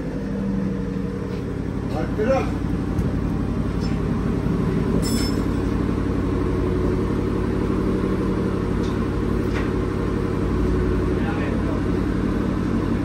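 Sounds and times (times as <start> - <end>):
engine running with low hum: 0.0 - 13.0.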